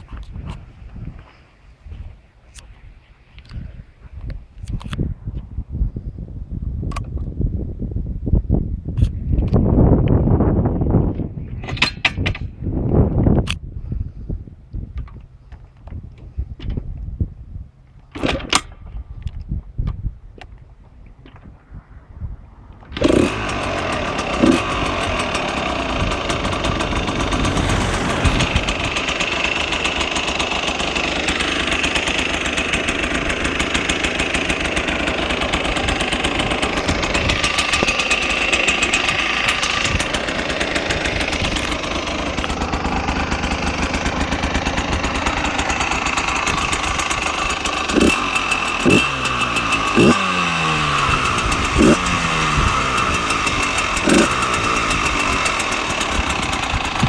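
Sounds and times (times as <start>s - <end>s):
motorcycle engine idling and revving: 3.3s - 57.0s.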